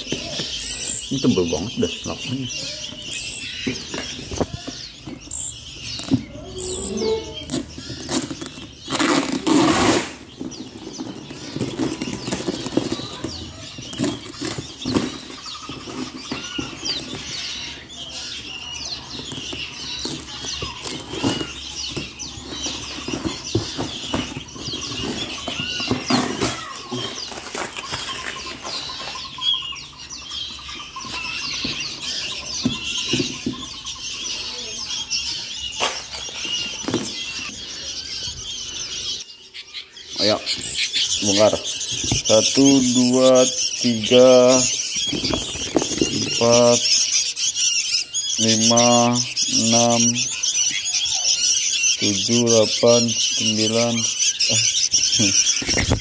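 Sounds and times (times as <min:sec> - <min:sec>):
chicks chirping: 0:00.0 - 0:56.0.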